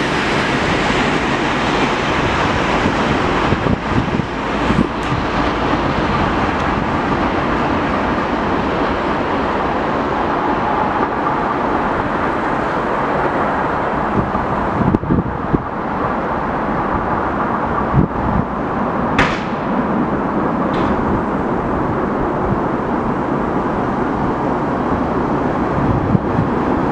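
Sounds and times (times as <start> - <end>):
electric locomotive running: 0.0 - 26.9.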